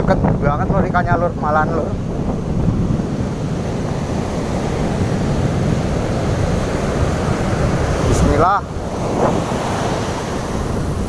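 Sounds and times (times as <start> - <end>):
ocean surf breaking: 0.0 - 11.0
wind blowing across microphone: 0.0 - 11.0.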